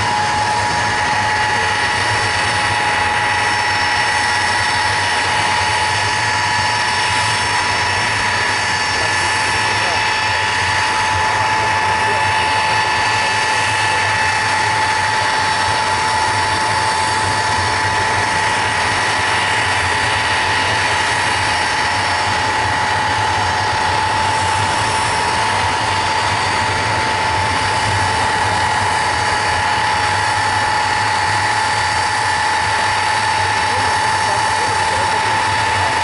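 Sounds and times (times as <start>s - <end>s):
jet engines whining and roaring: 0.0s - 36.0s.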